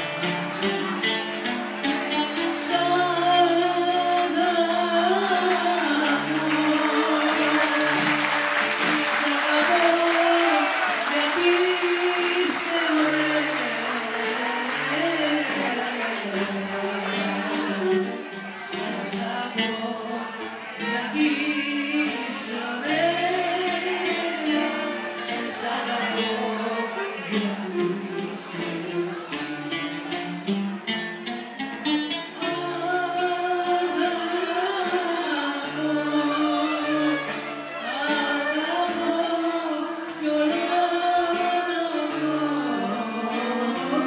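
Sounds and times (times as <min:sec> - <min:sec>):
instrumental accompaniment: 0:00.0 - 0:44.0
woman singing into a microphone: 0:02.1 - 0:29.6, 0:32.3 - 0:44.0.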